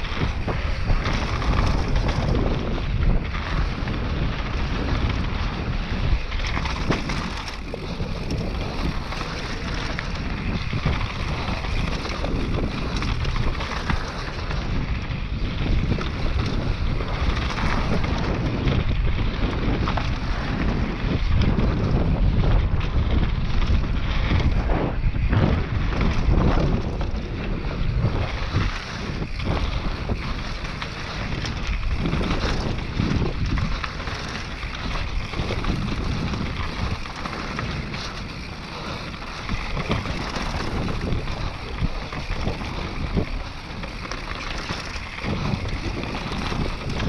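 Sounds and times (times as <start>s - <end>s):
low rumble of bike riding: 0.0s - 47.0s
wind buffeting microphone: 0.0s - 47.0s.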